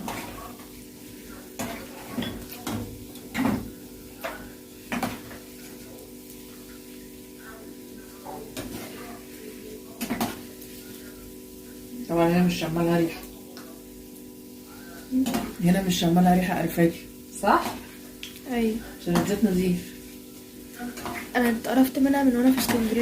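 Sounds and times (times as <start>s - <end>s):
dough frying in hot oil: 0.0s - 23.0s.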